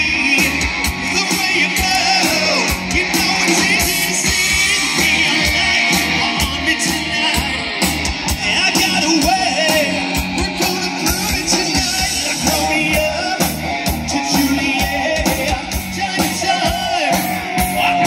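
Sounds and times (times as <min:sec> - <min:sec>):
electric guitars: 0:00.0 - 0:18.0
person singing into a microphone: 0:00.0 - 0:18.0
steady drum beat: 0:00.0 - 0:18.0.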